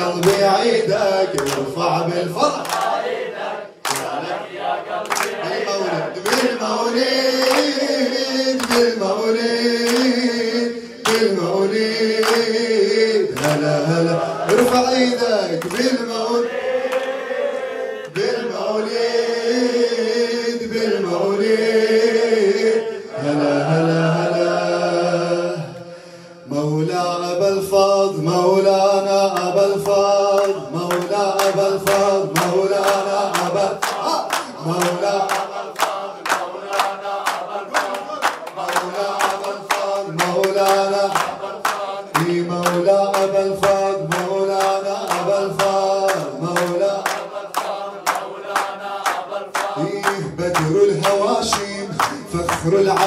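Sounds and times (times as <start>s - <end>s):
man chanting into a microphone: 0.0s - 2.8s, 5.4s - 16.6s, 18.1s - 48.0s, 49.0s - 53.0s.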